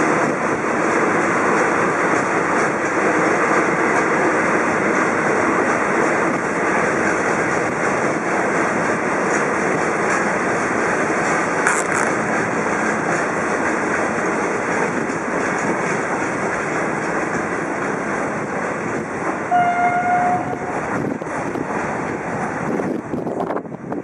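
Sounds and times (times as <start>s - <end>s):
train rolling past on rails: 0.0s - 24.0s.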